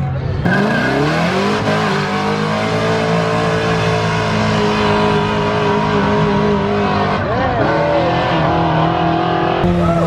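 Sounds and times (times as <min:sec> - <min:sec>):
car engine revving: 0:00.3 - 0:10.0.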